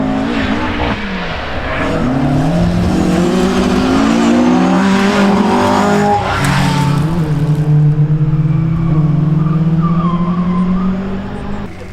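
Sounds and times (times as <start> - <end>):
rally car engine accelerating: 0.0 - 11.9.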